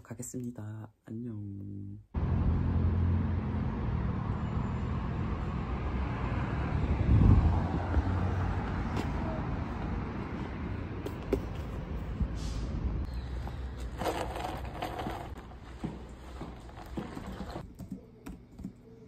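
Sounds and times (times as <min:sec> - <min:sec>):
road traffic hum: 0:02.2 - 0:17.6.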